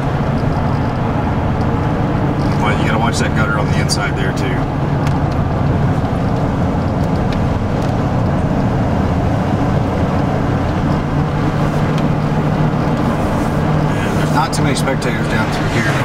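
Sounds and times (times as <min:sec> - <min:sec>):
car cabin road hum: 0:00.0 - 0:16.0.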